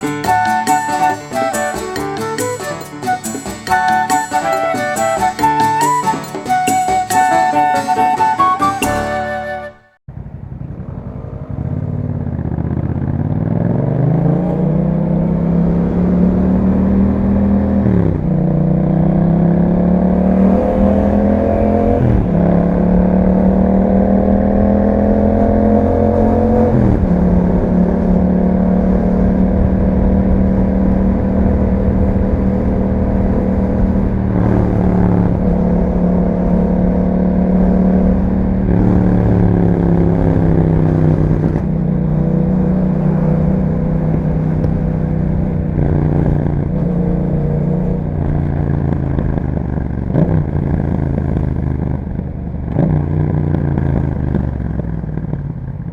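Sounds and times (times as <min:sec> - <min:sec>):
motorcycle engine accelerating: 0:10.1 - 0:55.9.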